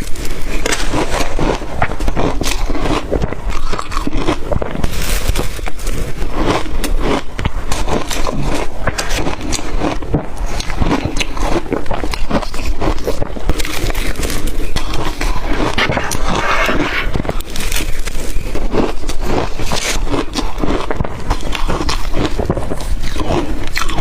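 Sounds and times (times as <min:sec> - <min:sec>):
crushed ice being chewed: 0:00.0 - 0:24.0.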